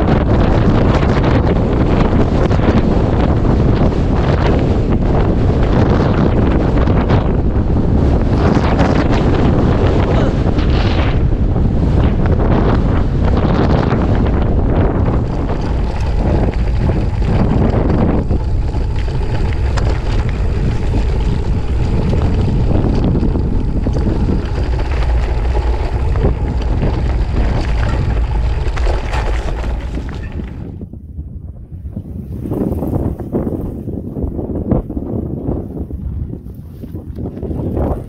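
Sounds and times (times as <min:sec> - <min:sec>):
tyres rolling over dirt and stones: 0:00.0 - 0:30.8
bike knocking and rattling: 0:00.0 - 0:31.0
wind buffeting microphone: 0:00.0 - 0:38.0.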